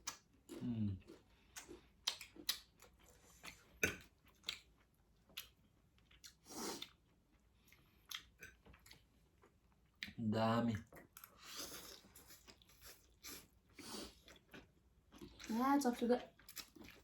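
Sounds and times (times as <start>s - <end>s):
person chewing noodles: 0.0s - 10.2s, 10.8s - 15.5s, 16.2s - 17.0s.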